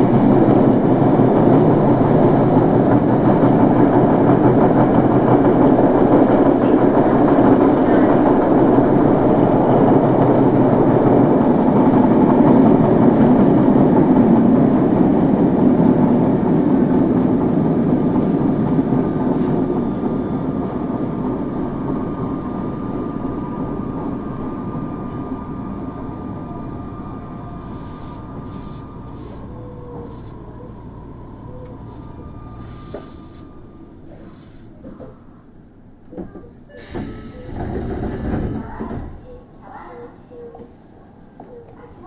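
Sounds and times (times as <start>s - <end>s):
subway wheels rumbling on rail: 0.0s - 42.0s.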